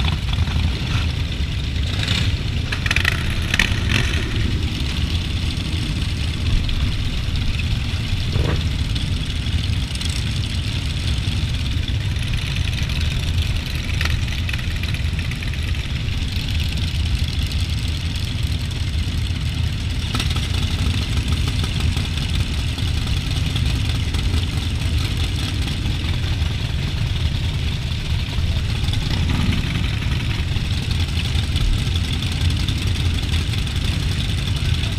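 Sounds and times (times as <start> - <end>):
motorcycle engines idling: 0.0 - 34.9.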